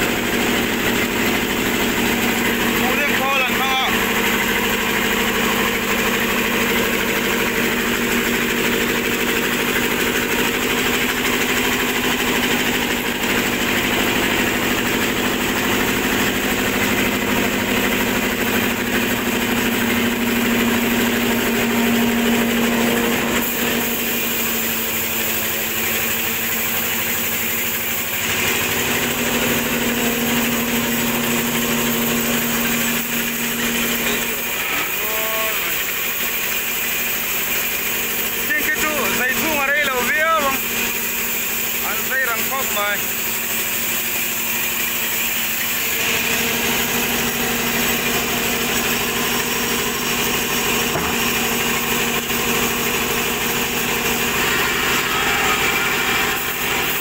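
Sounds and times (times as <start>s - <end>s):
stationary engine running: 0.0s - 57.0s.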